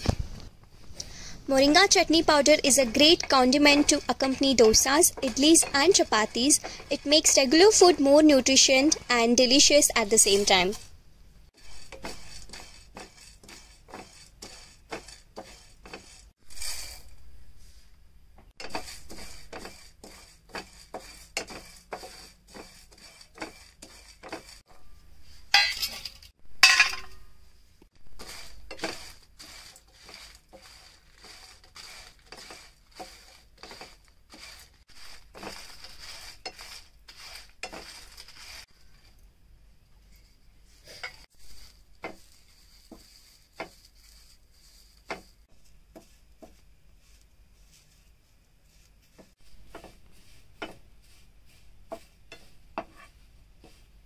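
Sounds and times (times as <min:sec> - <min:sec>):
spatula scraping pan: 0:01.2 - 0:17.8, 0:18.6 - 0:26.1, 0:28.1 - 0:39.2, 0:40.1 - 0:53.9.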